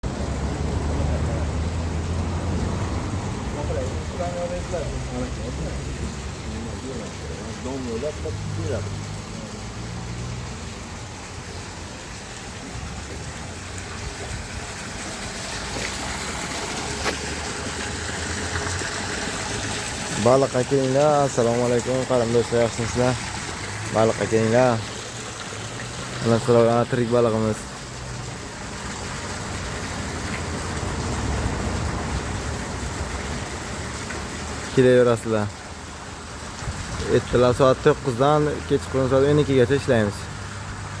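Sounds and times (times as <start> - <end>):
water running and splashing: 0.0 - 41.0.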